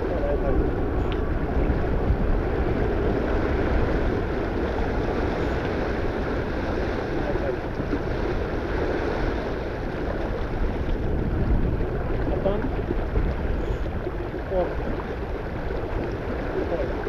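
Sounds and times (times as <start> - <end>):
water surging along hull: 0.0 - 17.0
wind buffeting microphone: 0.0 - 17.0.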